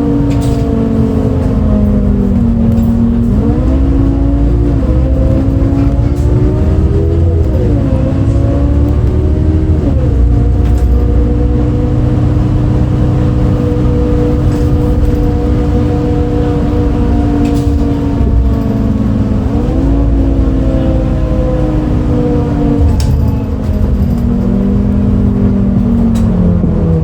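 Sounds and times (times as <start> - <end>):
bus diesel engine accelerating: 0.0 - 27.0.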